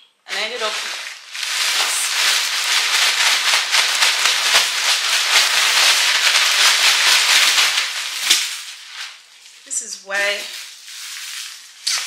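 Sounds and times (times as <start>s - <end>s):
plastic bag crinkling: 0.3s - 12.0s.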